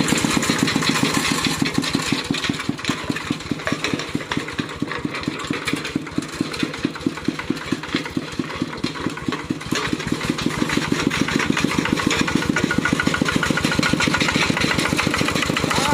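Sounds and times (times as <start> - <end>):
diesel tractor engine running: 0.0 - 15.9.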